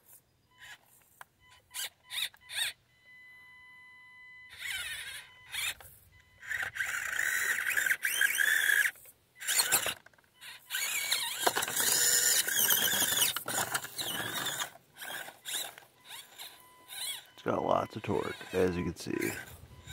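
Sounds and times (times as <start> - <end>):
small electric motor whining: 0.1 - 2.8, 4.5 - 19.9.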